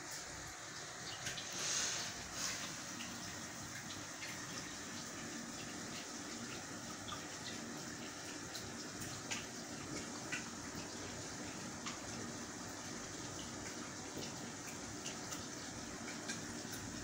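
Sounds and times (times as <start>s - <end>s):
aquarium water bubbling: 0.0s - 17.0s.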